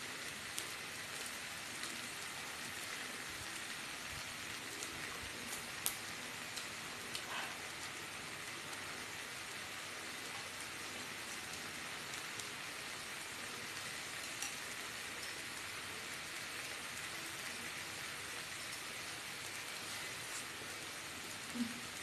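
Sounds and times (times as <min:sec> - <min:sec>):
pork sizzling in a pan: 0:00.1 - 0:22.0.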